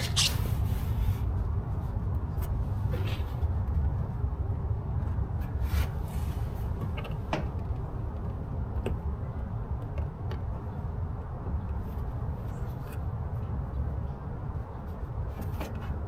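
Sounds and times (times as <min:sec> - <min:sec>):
steady low rumble: 0:00.0 - 0:15.3.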